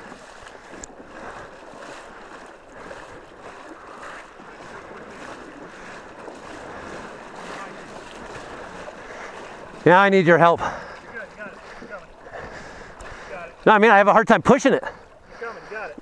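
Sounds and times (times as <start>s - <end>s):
river water splashing and rushing: 0.0s - 16.0s.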